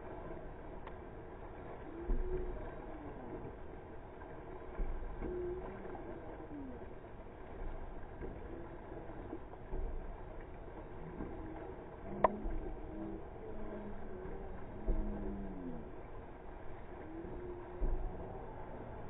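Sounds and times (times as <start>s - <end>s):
water washing against hull: 0.0s - 19.0s.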